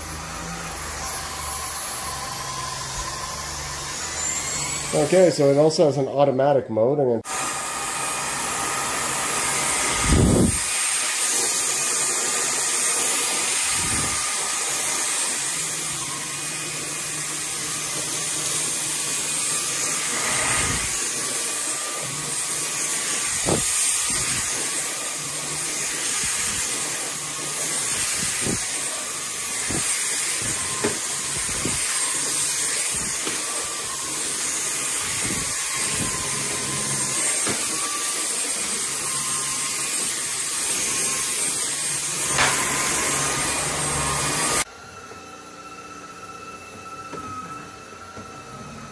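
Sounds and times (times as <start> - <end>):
stick vacuum running: 0.0 - 5.9, 7.2 - 48.9.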